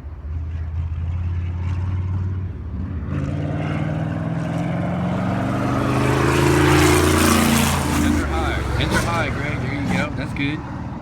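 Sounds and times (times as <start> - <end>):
race car engine revving: 0.9 - 11.0.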